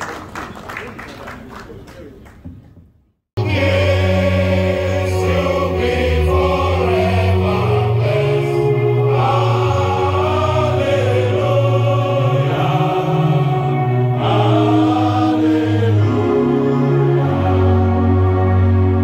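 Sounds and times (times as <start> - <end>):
group singing: 3.4 - 19.0.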